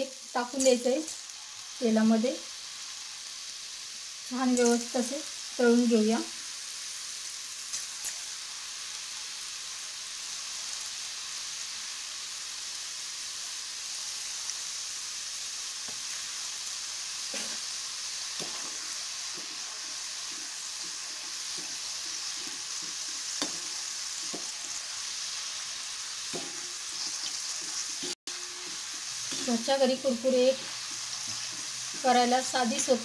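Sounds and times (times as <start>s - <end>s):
dough sizzling in hot oil: 0.0s - 33.0s.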